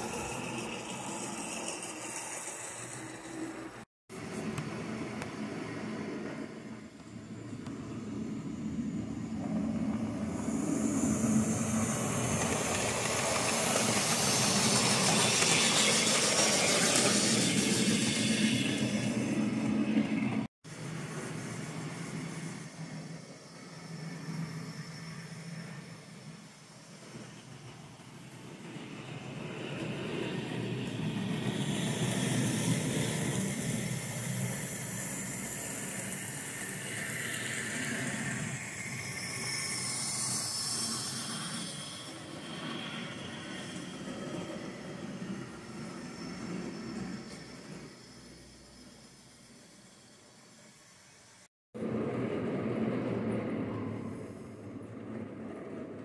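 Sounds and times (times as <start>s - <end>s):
model train wheels on rails: 0.0s - 4.5s, 8.7s - 52.0s.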